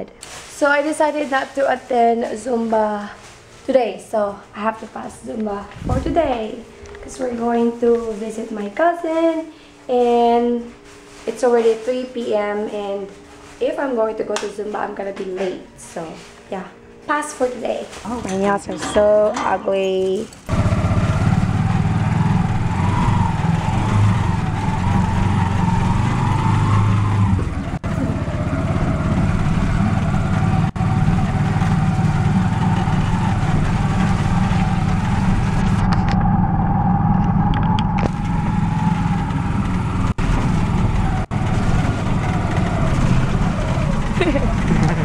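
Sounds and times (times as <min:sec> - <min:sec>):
vehicle engine and road rumble: 0:00.6 - 0:16.1, 0:19.8 - 0:45.0
wavering whine: 0:03.3 - 0:45.0.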